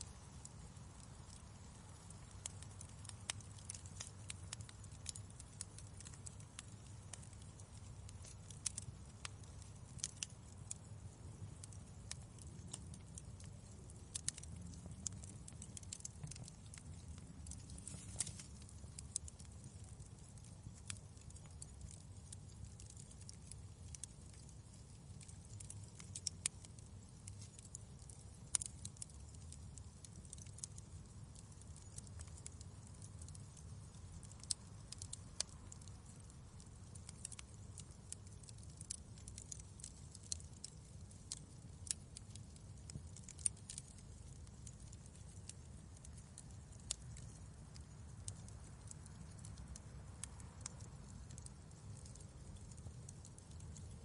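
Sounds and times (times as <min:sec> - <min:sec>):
low rumble of burning flames: 0:00.0 - 0:54.0
wood fire crackling: 0:00.0 - 0:54.0.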